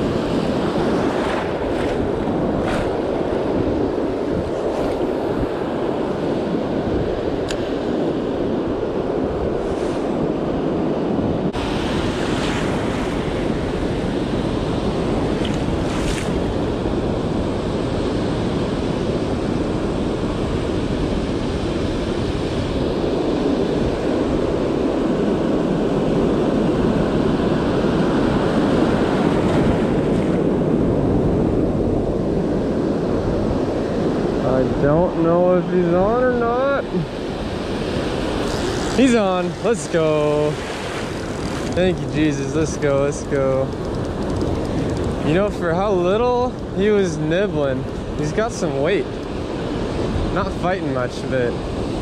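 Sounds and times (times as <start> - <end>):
ocean surf breaking: 0.0 - 52.0
wind buffeting microphone: 0.0 - 52.0.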